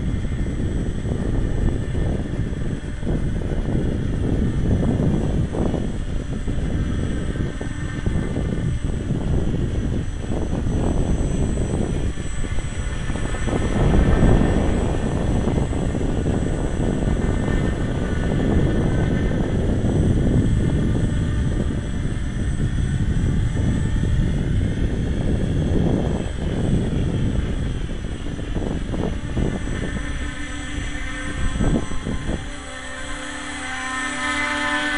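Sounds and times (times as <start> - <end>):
drone motors and propellers whining: 0.0 - 34.9
wind buffeting on microphone: 0.0 - 34.9.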